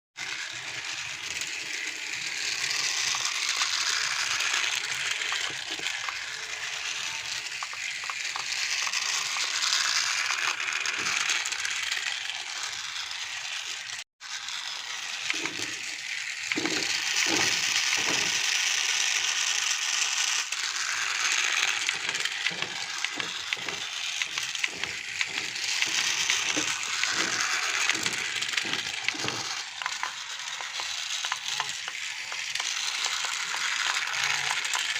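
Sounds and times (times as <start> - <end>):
toy vehicles rattling and whirring: 0.2 - 34.9.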